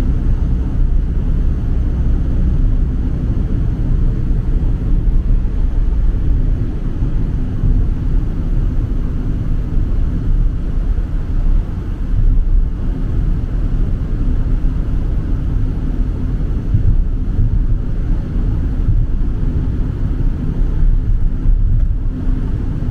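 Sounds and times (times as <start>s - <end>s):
strong wind buffeting microphone: 0.0s - 22.9s.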